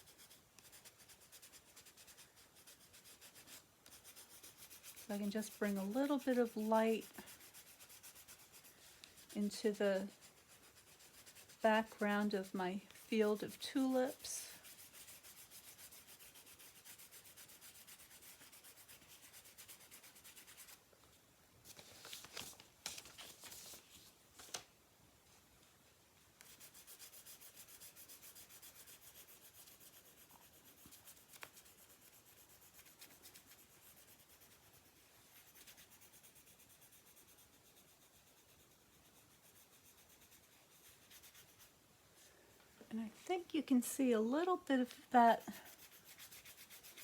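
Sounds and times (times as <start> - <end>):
pencil shading on paper: 0.0 - 20.8, 26.4 - 41.7, 45.4 - 47.0.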